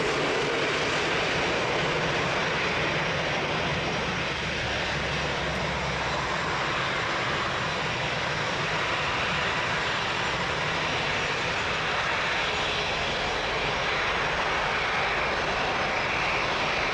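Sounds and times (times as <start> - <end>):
jet engine noise: 0.0 - 16.9.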